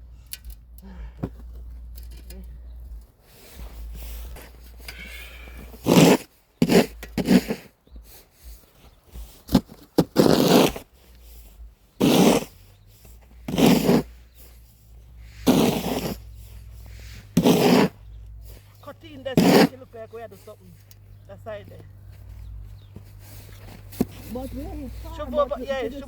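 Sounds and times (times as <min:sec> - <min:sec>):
snow shovels scraping snow: 0:03.2 - 0:26.0.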